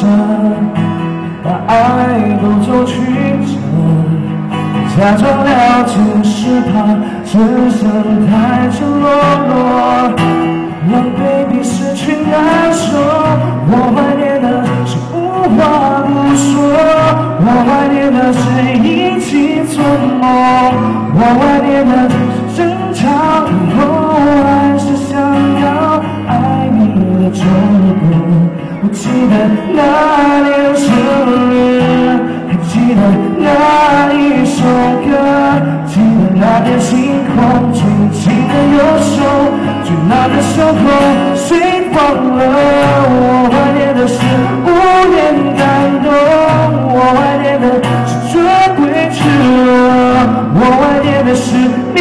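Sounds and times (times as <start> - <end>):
pop song performed live: 0.0 - 52.0.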